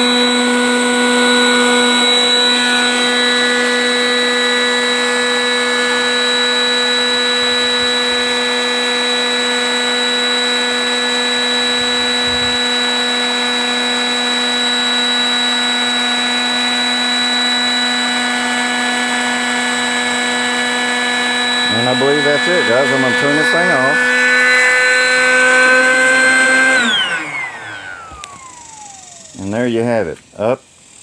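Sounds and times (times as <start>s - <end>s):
electric air pump humming: 0.0s - 31.0s.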